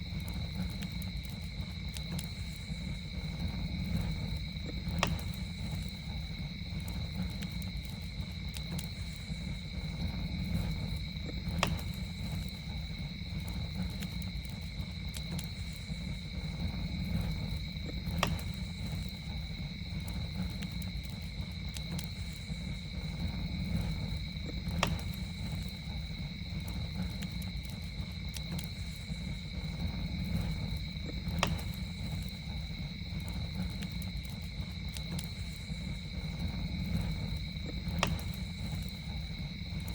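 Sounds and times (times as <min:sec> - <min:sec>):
campfire rumbling and crackling: 0:00.0 - 0:39.9
fire popping: 0:00.0 - 0:39.9
insects trilling: 0:00.0 - 0:39.9.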